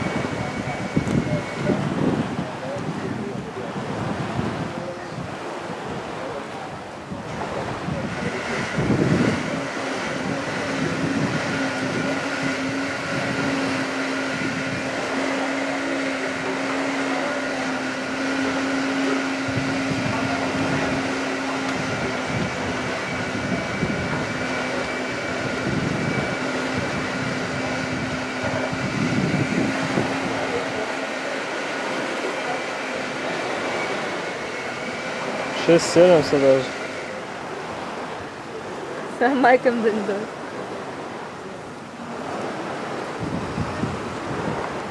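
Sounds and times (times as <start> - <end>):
constant rushing noise: 0.0 - 44.9
mechanical hum of fan or motor: 0.0 - 44.9.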